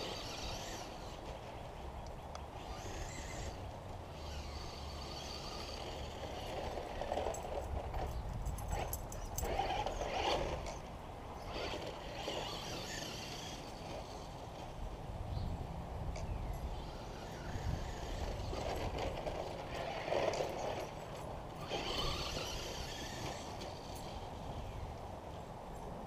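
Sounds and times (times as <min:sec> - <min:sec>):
rc car motor whining: 0:00.0 - 0:01.8, 0:02.5 - 0:08.1, 0:08.7 - 0:15.0, 0:16.6 - 0:24.9.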